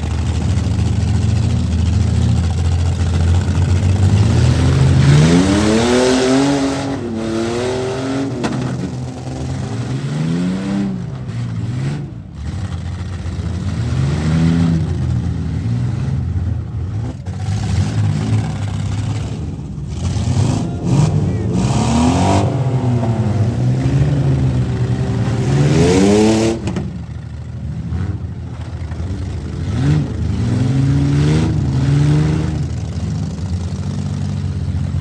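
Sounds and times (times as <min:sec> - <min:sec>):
car engines rumbling and revving: 0:00.0 - 0:35.0.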